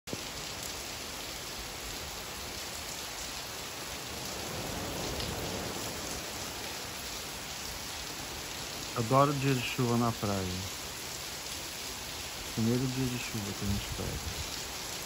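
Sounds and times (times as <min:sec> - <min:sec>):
steady rain falling: 0:00.1 - 0:15.0.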